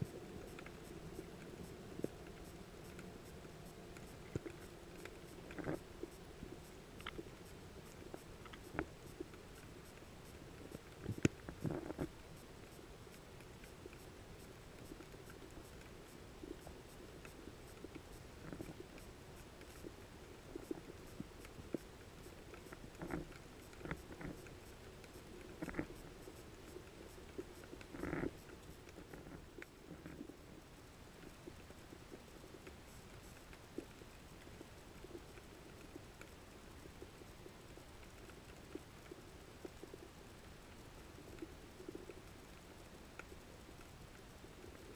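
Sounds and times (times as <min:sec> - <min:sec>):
faint underwater hum: 0:00.0 - 0:44.9.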